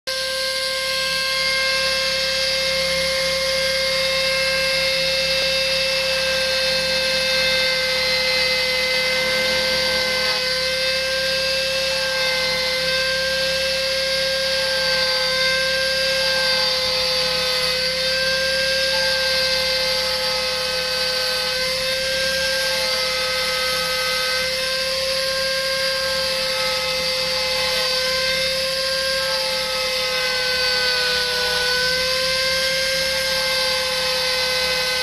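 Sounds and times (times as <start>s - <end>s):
cutter carving wood: 0.0s - 35.0s
power cutter whining: 0.0s - 35.0s.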